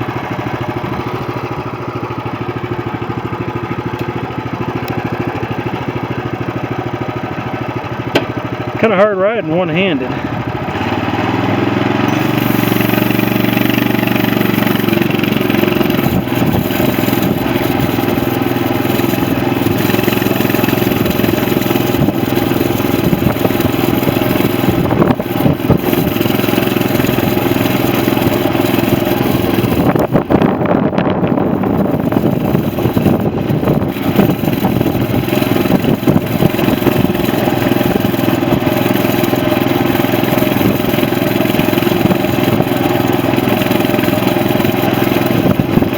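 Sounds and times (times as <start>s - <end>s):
mini bike engine running: 0.0s - 45.9s.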